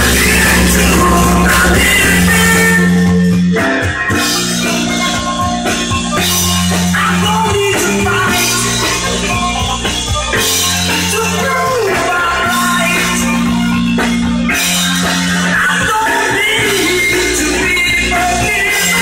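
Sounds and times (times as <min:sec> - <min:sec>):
band music with bass and drums: 0:00.0 - 0:19.0.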